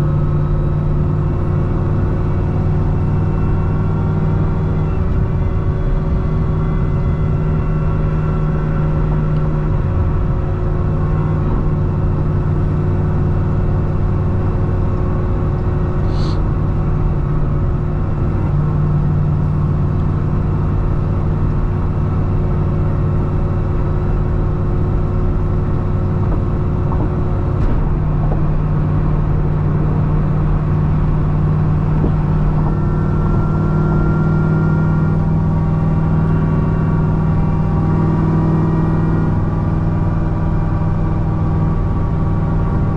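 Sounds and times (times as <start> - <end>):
car engine cruising drone: 0.0 - 42.9.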